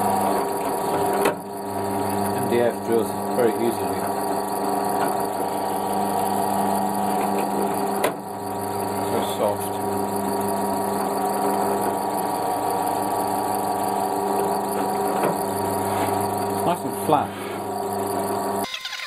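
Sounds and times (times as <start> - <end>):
drill press motor hum: 0.0 - 19.0.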